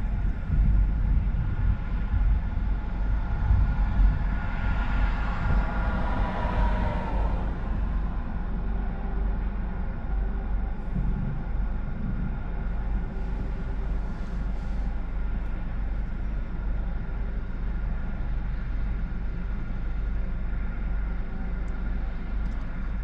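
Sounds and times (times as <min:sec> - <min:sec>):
faint steady hums: 0:00.0 - 0:23.0
low vehicle rumble: 0:00.0 - 0:23.0.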